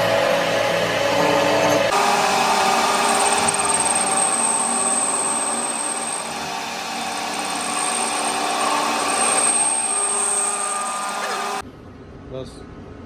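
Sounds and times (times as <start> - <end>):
power tool whining: 0.0 - 11.6.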